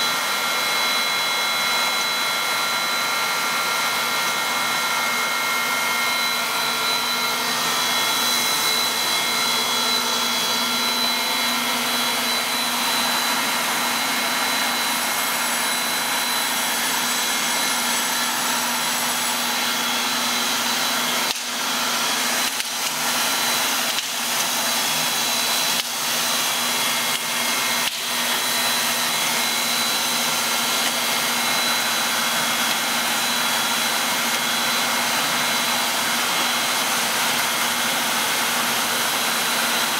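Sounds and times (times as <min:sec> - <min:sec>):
machine whirring: 0:00.0 - 0:39.9.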